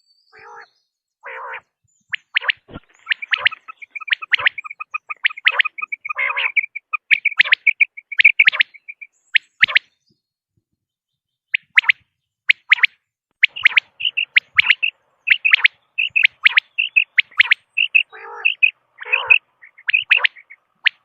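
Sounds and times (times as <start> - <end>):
quail calling: 0.3 - 9.9, 11.6 - 21.0.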